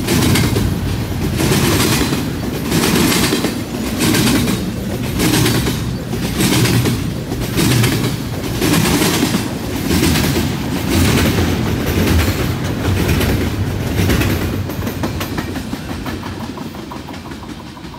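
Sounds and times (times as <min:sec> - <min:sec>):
train wheels clattering over track: 0:00.0 - 0:17.9.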